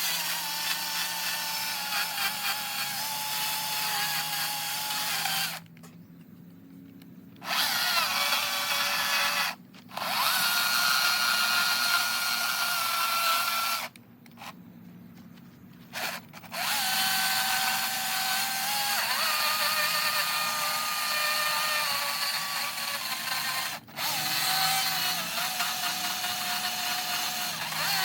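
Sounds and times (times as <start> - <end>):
power tool carving wood: 0.0 - 5.6, 7.4 - 13.9, 16.0 - 28.0.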